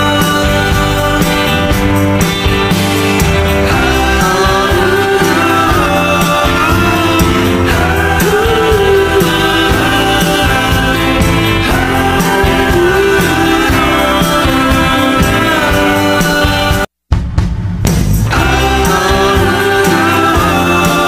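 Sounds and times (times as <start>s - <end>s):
person singing: 0.0s - 2.0s, 3.6s - 16.9s, 18.3s - 21.0s
background music: 0.0s - 16.9s, 18.0s - 21.0s.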